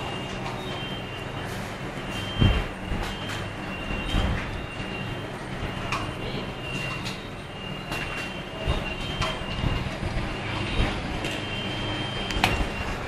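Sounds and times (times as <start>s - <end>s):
factory machinery humming: 0.0s - 13.0s.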